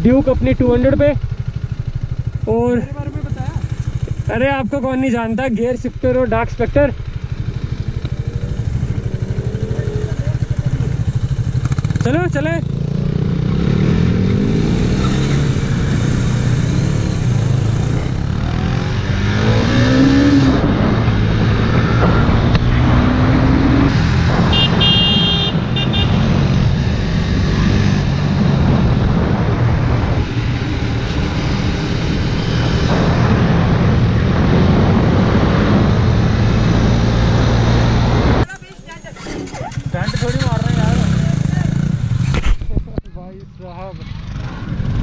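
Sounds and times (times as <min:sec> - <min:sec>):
motorcycle engine accelerating: 0:00.0 - 0:45.0
wind and road noise: 0:00.0 - 0:45.0.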